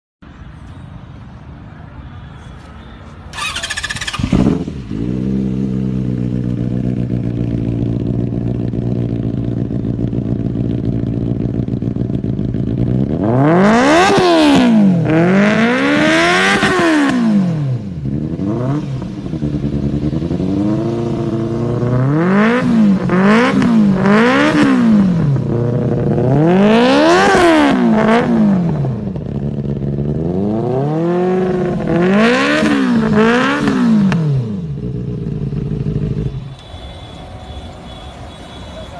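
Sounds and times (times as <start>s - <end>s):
motorcycle engine revving: 3.3s - 37.1s.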